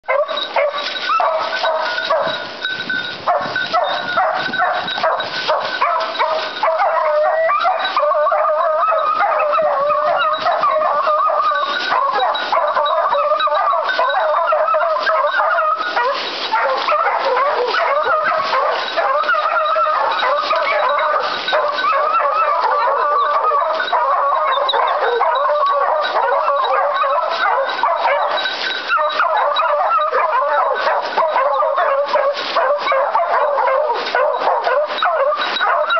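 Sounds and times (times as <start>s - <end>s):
hounds baying: 0.0s - 35.9s.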